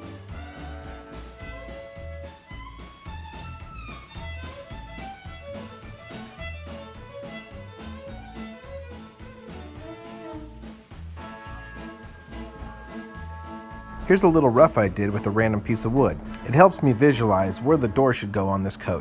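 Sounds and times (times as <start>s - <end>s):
instrumental music with beat: 0.0s - 19.0s.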